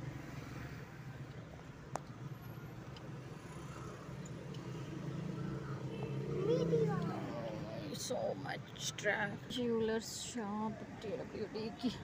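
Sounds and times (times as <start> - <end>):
car engine and road hum: 0.0 - 12.0.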